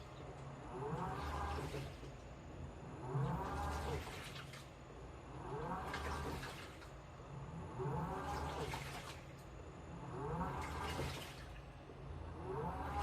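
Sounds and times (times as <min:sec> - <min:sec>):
washing machine motor whine: 0:00.0 - 0:13.0
water sloshing in a tub: 0:00.0 - 0:13.0.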